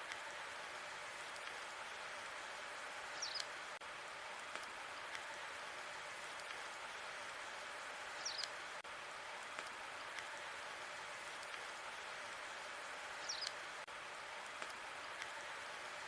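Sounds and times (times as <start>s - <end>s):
fire hissing and crackling: 0.0s - 16.0s.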